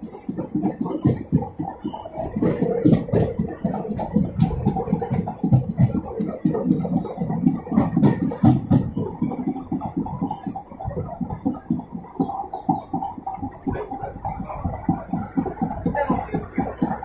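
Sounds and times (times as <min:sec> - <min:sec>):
train rumble: 0:00.0 - 0:17.0
wheels thumping: 0:00.0 - 0:17.0.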